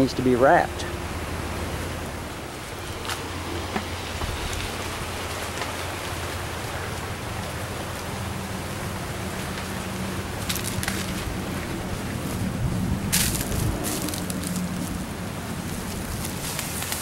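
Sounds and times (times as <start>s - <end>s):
low steady hum: 0.0s - 17.0s
patter of falling water: 0.0s - 17.0s.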